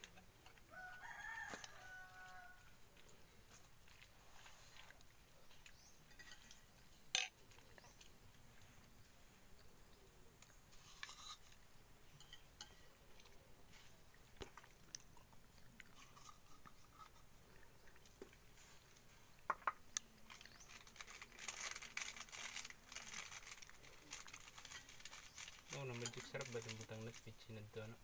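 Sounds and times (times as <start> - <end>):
chewing and crunching: 0.0 - 27.4.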